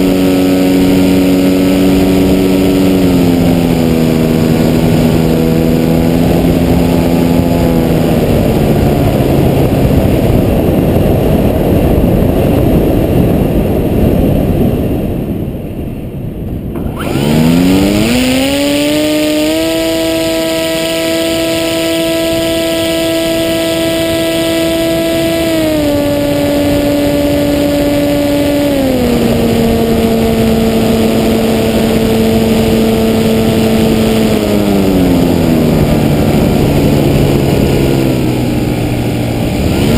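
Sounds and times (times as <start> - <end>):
electric motor whine: 0.0 - 10.1, 16.7 - 39.9
wind noise: 0.0 - 39.9.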